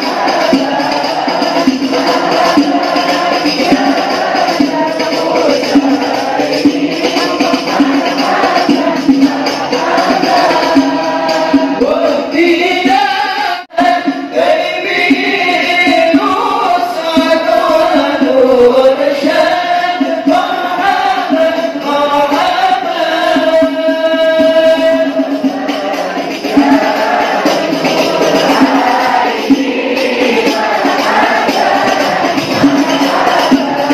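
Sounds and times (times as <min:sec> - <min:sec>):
group singing devotional song: 0:00.0 - 0:33.9
tambourine-like hand percussion: 0:00.0 - 0:33.9.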